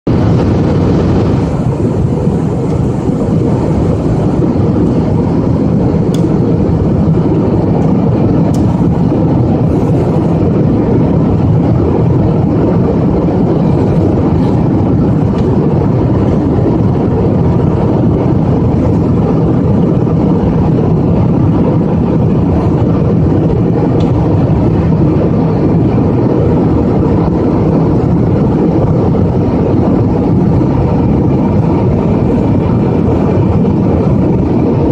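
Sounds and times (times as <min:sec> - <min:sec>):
jet airliner cabin noise: 0:00.0 - 0:34.9.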